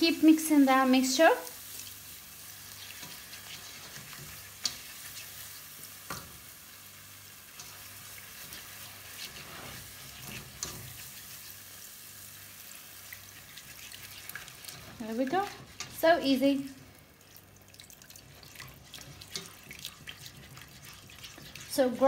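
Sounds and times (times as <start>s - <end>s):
roux sizzling softly: 0.0s - 22.0s.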